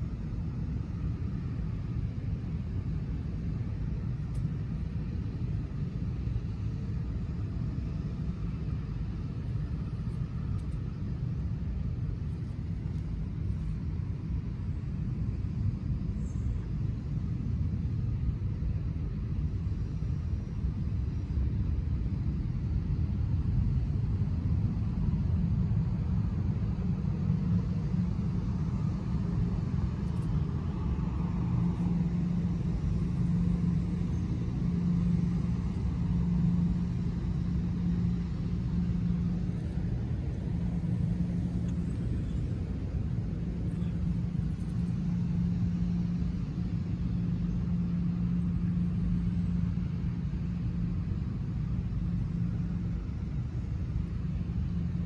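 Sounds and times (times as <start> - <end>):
engine rumbling: 0.0 - 55.0
low hum: 0.0 - 55.0.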